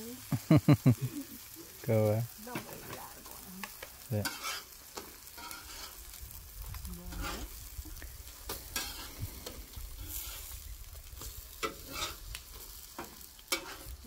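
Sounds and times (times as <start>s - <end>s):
food sizzling on a griddle: 0.0s - 14.0s.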